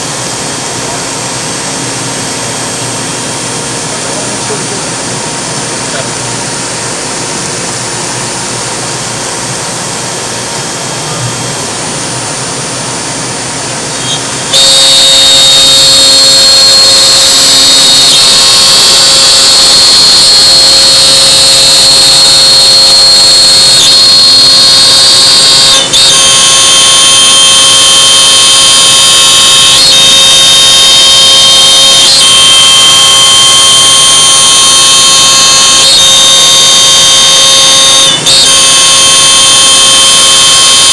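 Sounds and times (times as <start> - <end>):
machine hum: 0.0 - 40.9
router cutting with high whine: 0.0 - 40.9.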